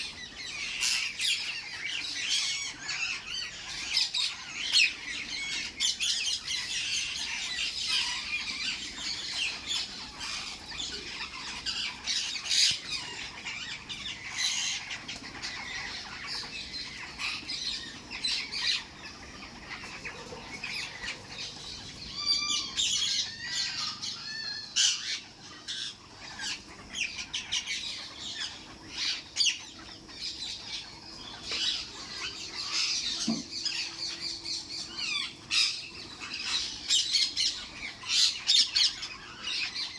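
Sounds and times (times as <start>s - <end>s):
parrots squawking and chattering: 0.0s - 39.9s.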